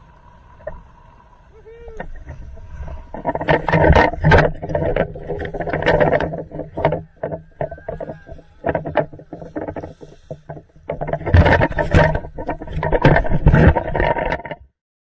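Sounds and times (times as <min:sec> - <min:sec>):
waves slapping against boat hull: 0:02.0 - 0:14.7.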